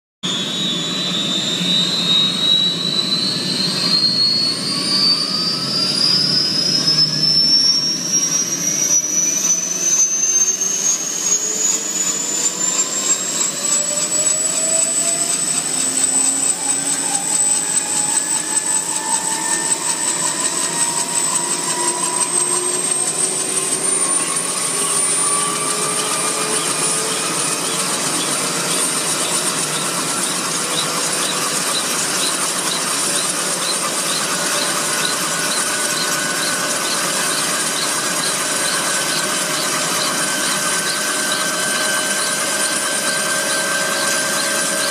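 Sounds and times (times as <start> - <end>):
helicopter engine whine: 0.2 - 44.9.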